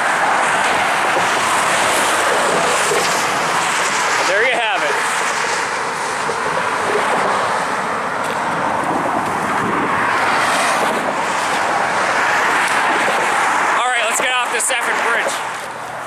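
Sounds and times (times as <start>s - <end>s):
vehicles passing on highway: 0.0s - 16.0s.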